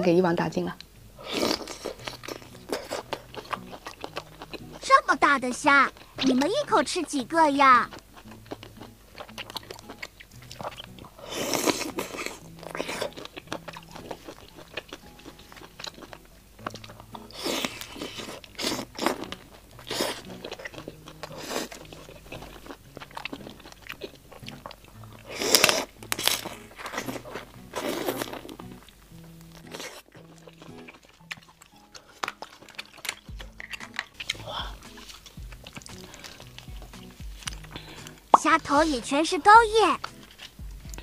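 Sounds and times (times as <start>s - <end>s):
faint background music: 0.0s - 41.0s
wet crunchy chewing: 0.8s - 41.0s
biting into prawn: 1.2s - 4.8s, 7.9s - 38.3s.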